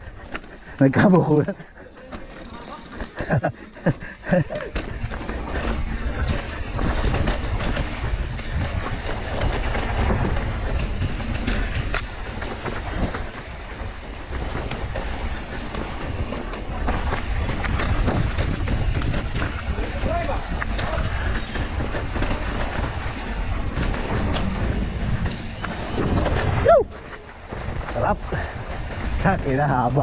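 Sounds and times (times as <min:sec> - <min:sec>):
bike frame rattling: 0:00.0 - 0:30.0
bike tyres rumbling on dirt: 0:00.0 - 0:30.0.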